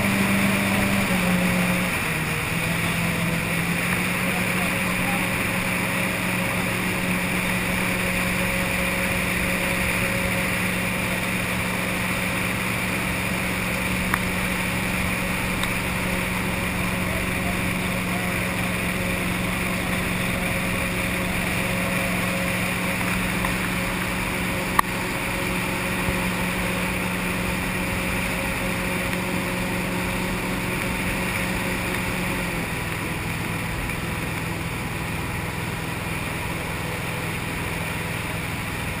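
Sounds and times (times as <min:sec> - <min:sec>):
boat engine running: 0:00.0 - 0:39.0
water rushing along hull: 0:00.0 - 0:39.0.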